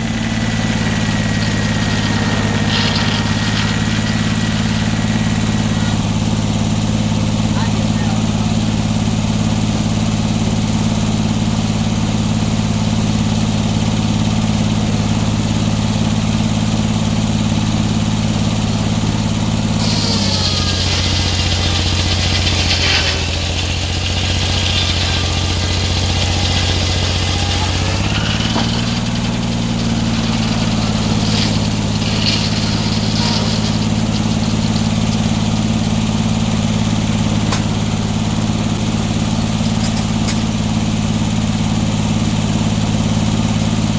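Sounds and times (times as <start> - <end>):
saw hissing through wood: 0.0 - 9.0, 16.8 - 43.4
sawmill engine running: 0.0 - 43.9.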